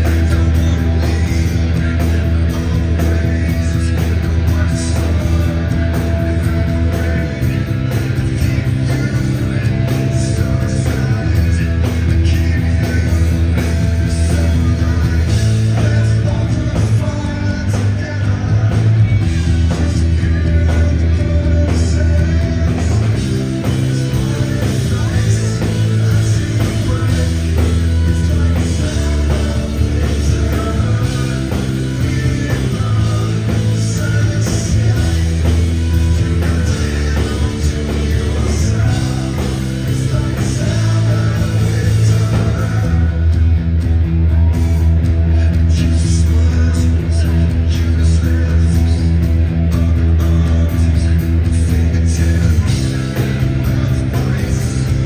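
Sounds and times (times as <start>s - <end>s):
bass guitar: 0.0s - 55.0s
distorted electric guitars: 0.0s - 55.0s
drums: 0.0s - 55.0s.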